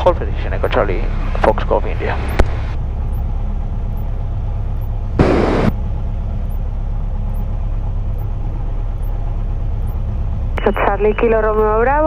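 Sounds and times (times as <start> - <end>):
aircraft engine idling: 0.0 - 12.0.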